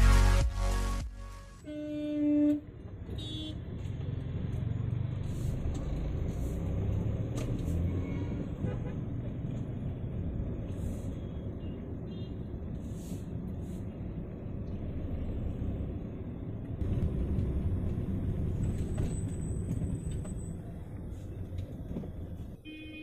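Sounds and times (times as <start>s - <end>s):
road traffic rumble: 1.6s - 23.0s.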